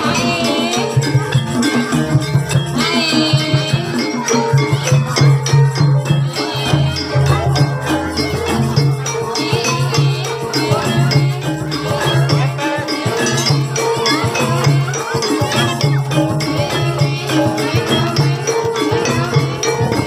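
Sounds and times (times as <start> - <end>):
dense percussion: 0.0 - 20.0.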